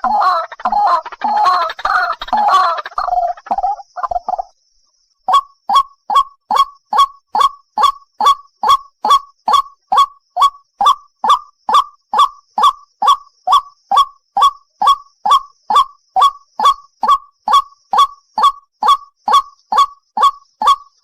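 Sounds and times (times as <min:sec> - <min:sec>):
bird calling harsh note: 0:00.0 - 0:04.4, 0:05.3 - 0:21.0.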